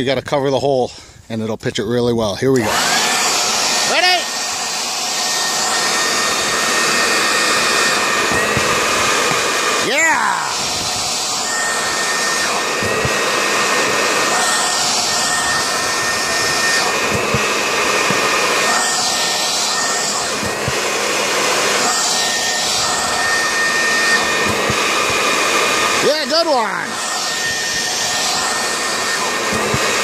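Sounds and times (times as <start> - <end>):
leaf blower whining: 2.6 - 30.0.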